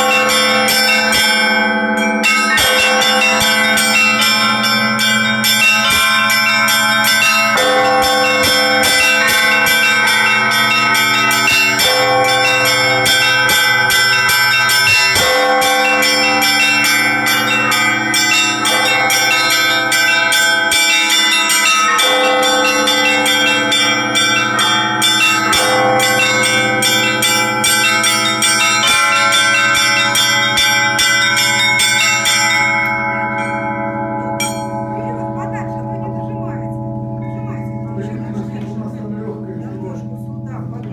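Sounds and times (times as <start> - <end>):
large church bells ringing: 0.0 - 40.9
middle church bells: 0.0 - 40.9
small church bells rapid strokes: 0.0 - 40.9.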